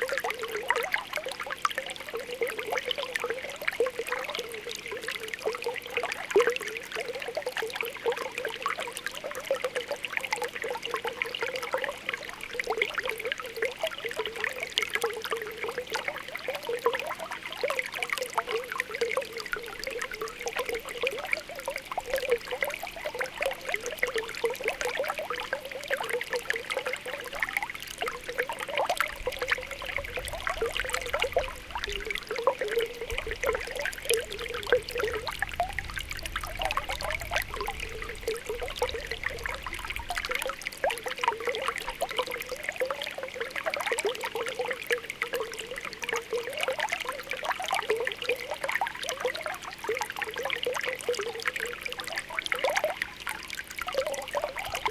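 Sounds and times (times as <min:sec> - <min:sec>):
spring water bubbling: 0:00.0 - 0:54.9.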